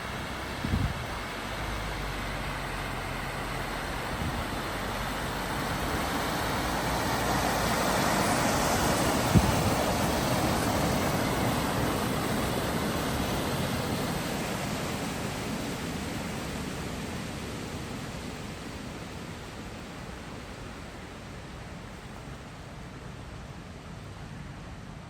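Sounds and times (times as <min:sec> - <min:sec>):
vehicle wading through water: 0:00.0 - 0:24.8.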